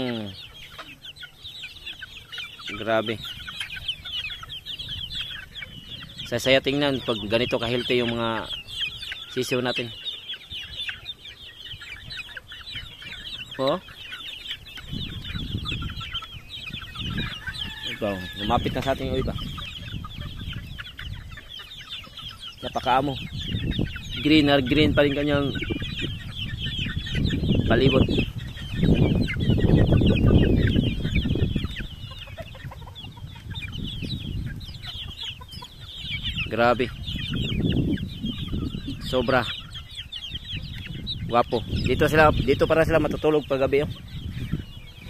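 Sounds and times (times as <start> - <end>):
chicks peeping: 0.0 - 45.0.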